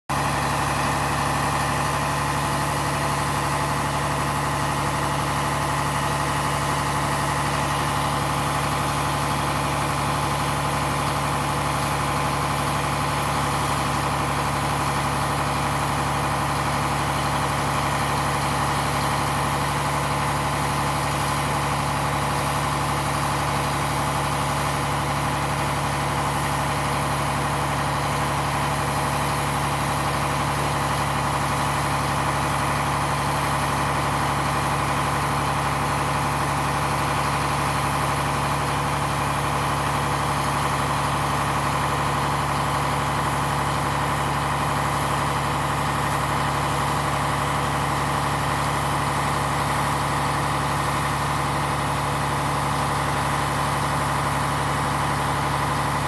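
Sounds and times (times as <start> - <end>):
truck engine running: 0.1 - 56.0.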